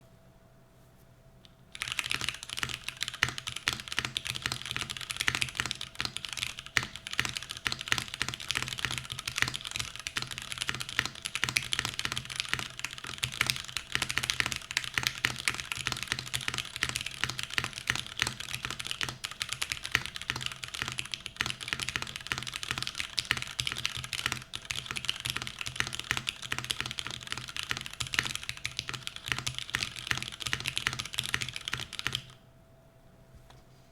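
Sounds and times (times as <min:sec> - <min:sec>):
faint steady hum: 0:00.0 - 0:33.9
fast typing on mechanical keyboard: 0:01.7 - 0:32.4.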